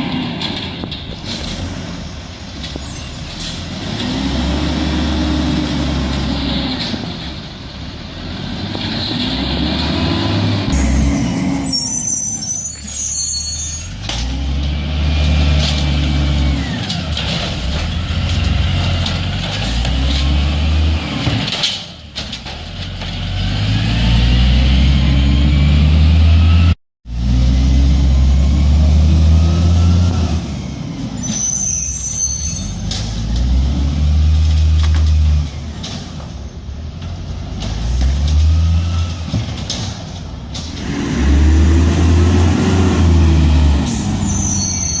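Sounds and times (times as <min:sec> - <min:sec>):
heavy truck engine: 0:00.0 - 0:45.0.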